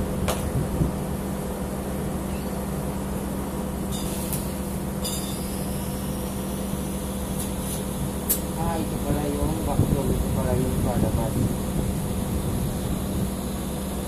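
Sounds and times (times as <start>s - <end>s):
air conditioner compressor hum: 0.0s - 14.0s.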